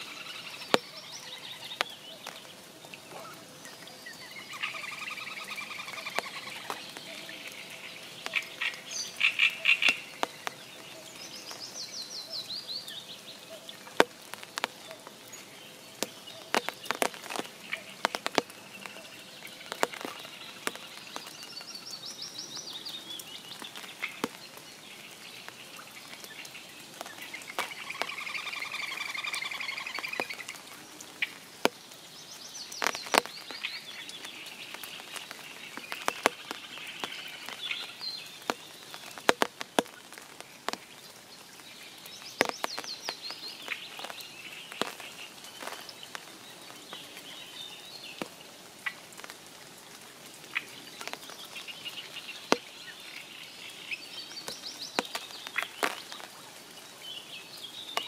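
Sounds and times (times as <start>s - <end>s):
birds singing: 0.0s - 49.6s, 50.4s - 58.0s
heavy raindrops tapping: 0.0s - 58.0s
rain patter on pond: 0.0s - 58.0s.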